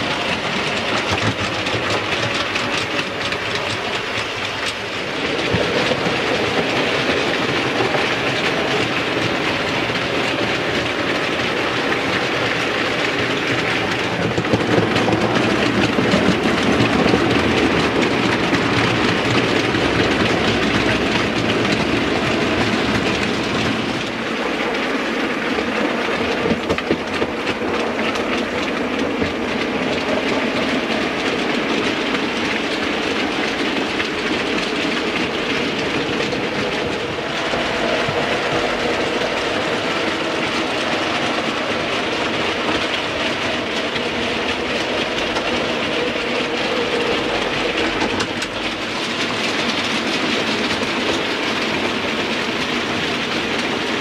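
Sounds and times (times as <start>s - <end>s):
model train wheels clicking: 0.0s - 54.0s.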